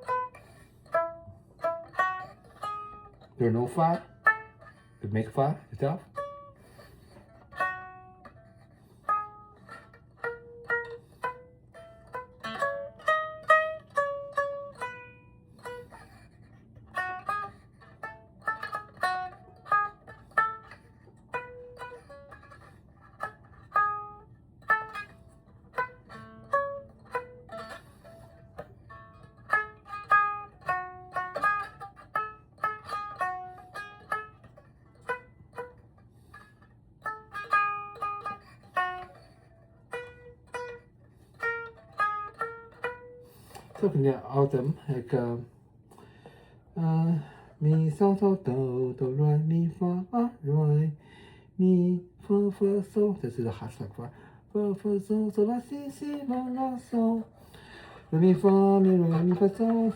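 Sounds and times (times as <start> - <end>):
plucked lute melody: 0.0 - 59.9.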